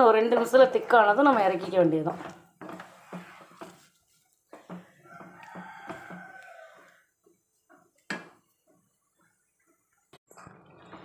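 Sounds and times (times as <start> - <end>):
wooden spatula scraping a pan: 0.0 - 9.8.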